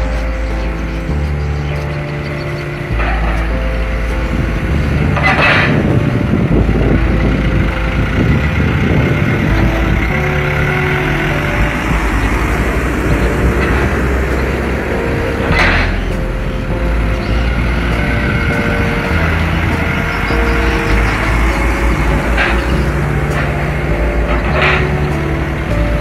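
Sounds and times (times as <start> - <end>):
diesel truck engine under load: 0.0 - 26.0
music with long held notes: 0.0 - 26.0.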